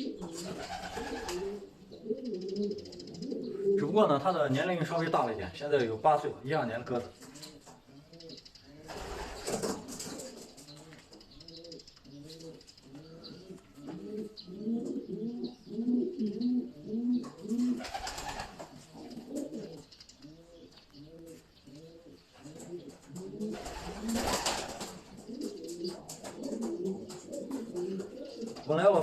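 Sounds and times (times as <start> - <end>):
pigeons cooing: 0.0 - 5.9, 6.8 - 29.0.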